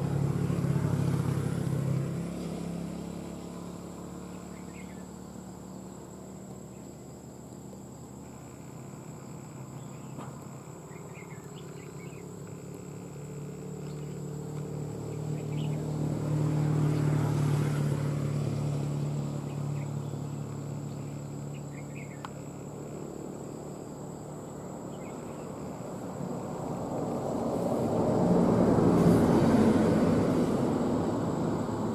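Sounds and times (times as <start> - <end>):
distant engine droning: 0.0 - 31.9
high insect whine: 0.0 - 31.9.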